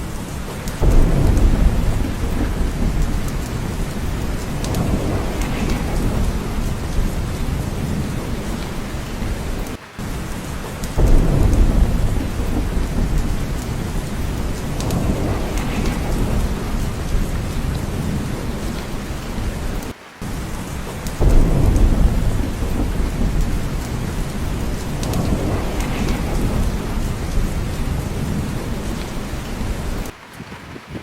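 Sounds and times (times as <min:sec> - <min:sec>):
heavy rain: 0:00.0 - 0:31.0
thunder rumbling: 0:00.0 - 0:31.0.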